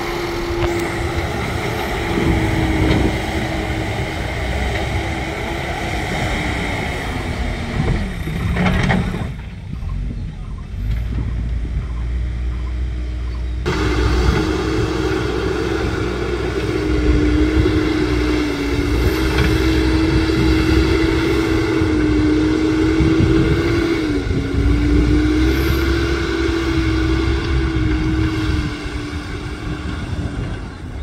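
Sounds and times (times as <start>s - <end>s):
diesel engine running: 0.0s - 31.0s
steady whining tone: 0.0s - 31.0s.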